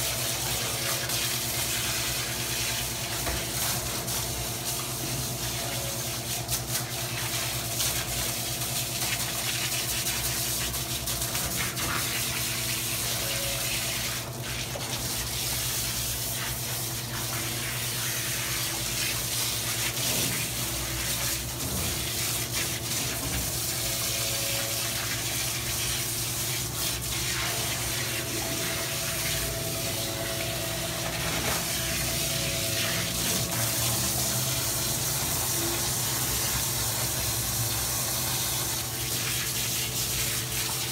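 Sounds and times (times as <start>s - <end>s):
water spraying on dog: 0.0s - 40.9s.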